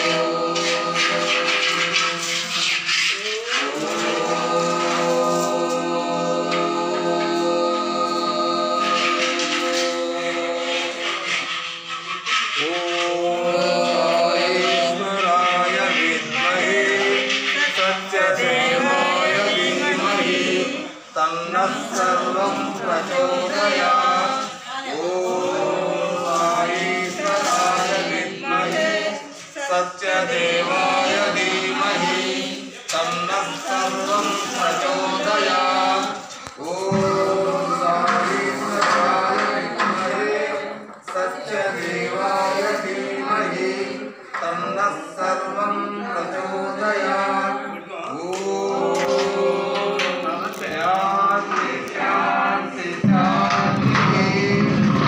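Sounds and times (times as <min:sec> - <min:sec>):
group of voices chanting: 0:00.0 - 0:55.0.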